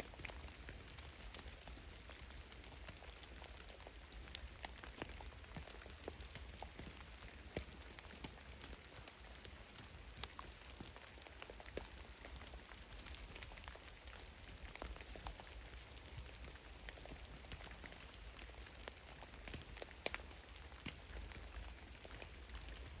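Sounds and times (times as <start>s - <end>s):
soft steady hiss: 0.0s - 23.0s
meltwater drops pattering on snow: 0.2s - 23.0s.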